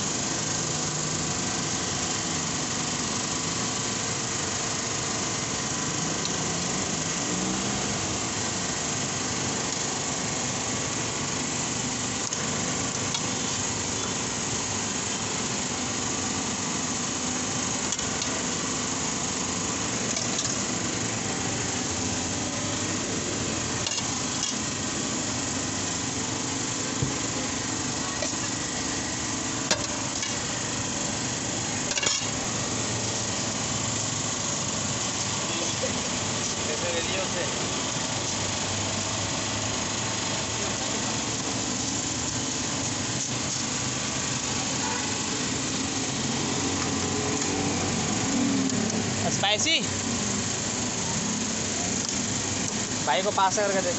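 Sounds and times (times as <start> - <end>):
steady machine drone: 0.0 - 53.9.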